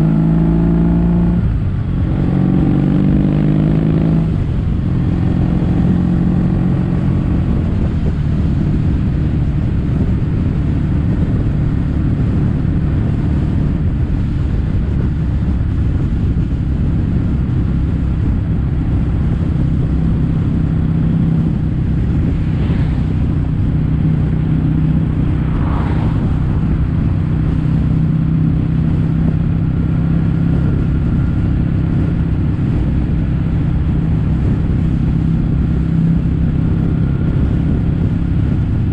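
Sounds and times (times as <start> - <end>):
motorcycle engine exhaust drone: 0.0 - 38.9.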